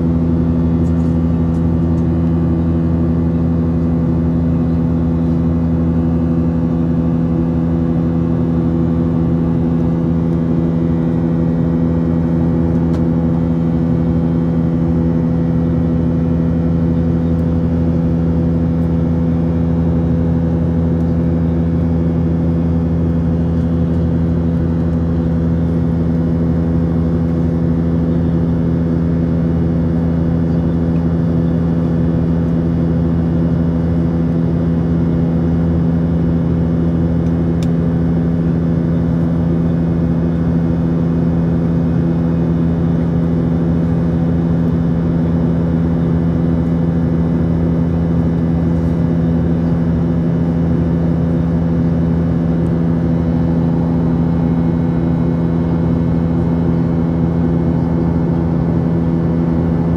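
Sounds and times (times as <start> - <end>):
aircraft cabin drone: 0.0 - 59.9.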